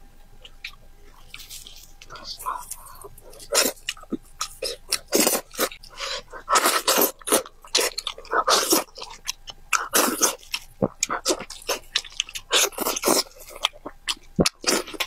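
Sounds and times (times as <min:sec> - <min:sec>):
mouth biting and chewing: 0:00.4 - 0:15.0.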